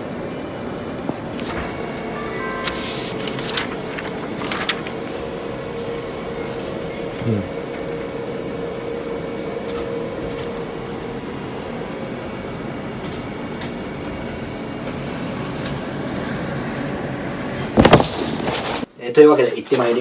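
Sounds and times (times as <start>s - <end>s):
store background hum: 0.0s - 20.0s.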